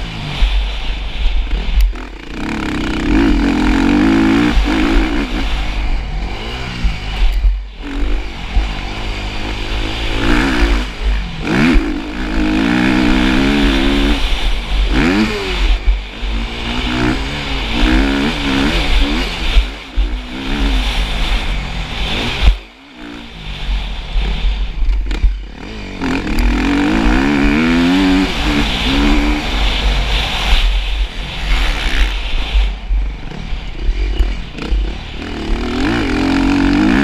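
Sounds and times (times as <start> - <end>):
heavy low rumble: 0.0 - 37.0
motocross bike engines revving: 0.0 - 37.0.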